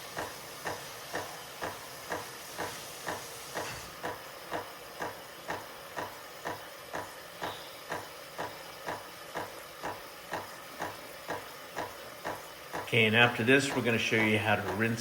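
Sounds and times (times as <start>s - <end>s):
espresso machine pulsing hiss: 0.0s - 15.0s.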